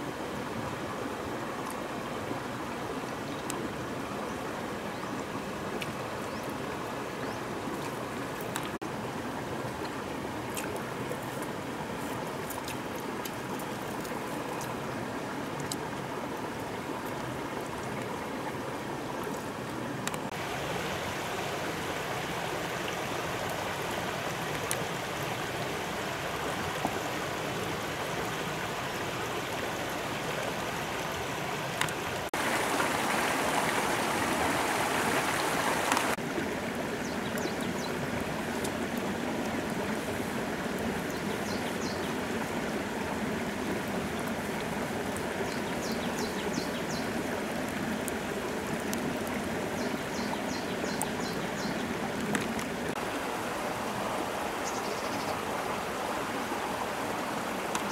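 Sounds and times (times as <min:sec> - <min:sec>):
stream flowing over stones: 0:00.0 - 0:57.9.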